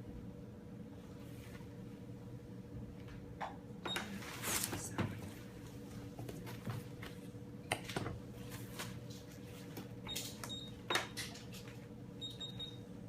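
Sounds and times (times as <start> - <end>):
ultrasound machine humming: 0.0 - 13.0.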